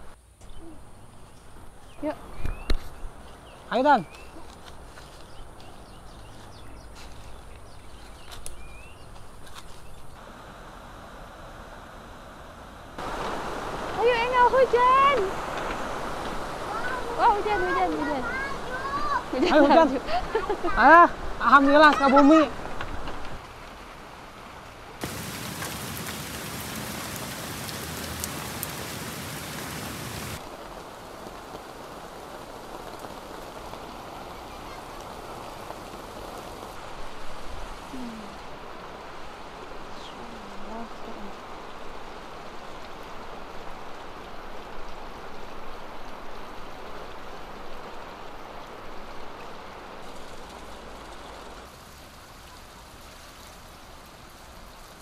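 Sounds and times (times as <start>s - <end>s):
hard rain falling: 1.6s - 55.0s.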